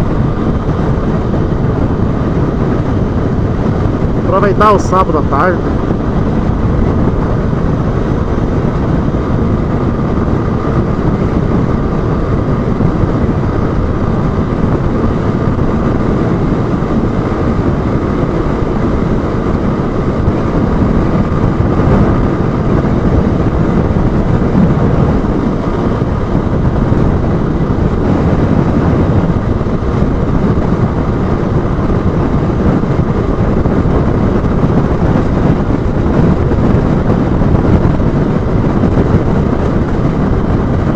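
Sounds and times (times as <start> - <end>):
motorcycle engine: 0.0 - 40.9
road noise: 0.0 - 40.9
wind rush: 0.0 - 40.9.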